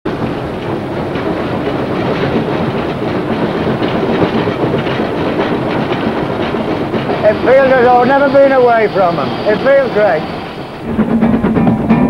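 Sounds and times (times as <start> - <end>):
steam locomotive rumbling: 0.0 - 12.0
rattling: 0.1 - 12.0.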